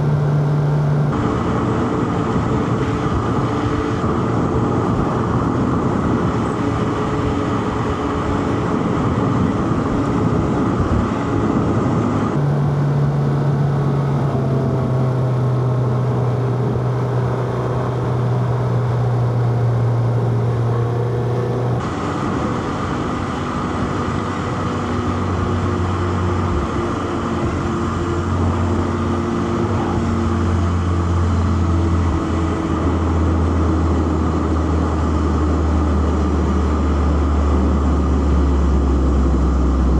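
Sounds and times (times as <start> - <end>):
car engine running: 0.0 - 39.9
road and tyre noise: 0.0 - 39.9.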